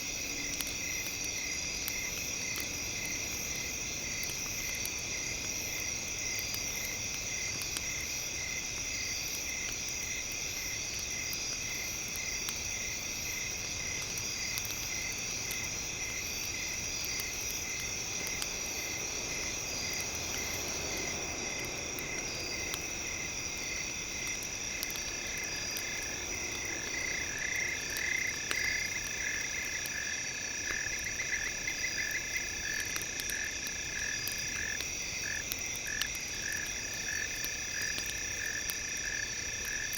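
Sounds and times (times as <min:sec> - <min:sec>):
crickets and insects chirping: 0:00.0 - 0:39.9
frogs croaking: 0:05.6 - 0:39.9.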